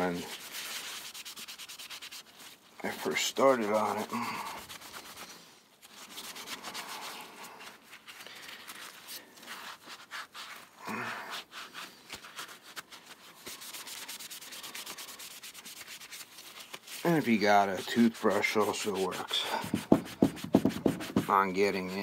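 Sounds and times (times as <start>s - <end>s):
cloth rag rubbing on steel: 0.0s - 22.0s.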